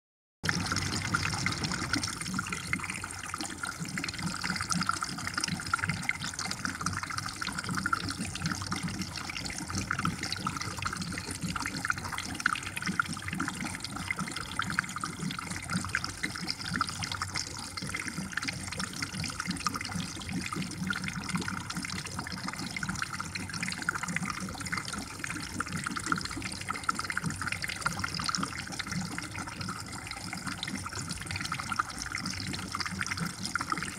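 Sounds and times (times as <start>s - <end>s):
aquarium water trickling and bubbling: 0.4s - 33.9s.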